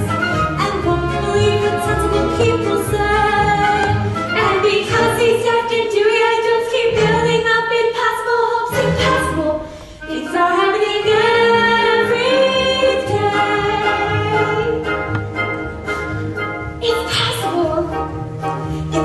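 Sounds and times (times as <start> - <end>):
instrumental accompaniment: 0.0 - 7.6, 8.7 - 19.0.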